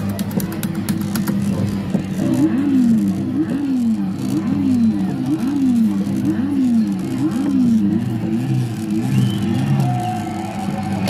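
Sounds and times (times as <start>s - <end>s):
looped car engine sound effect: 0.0s - 11.0s.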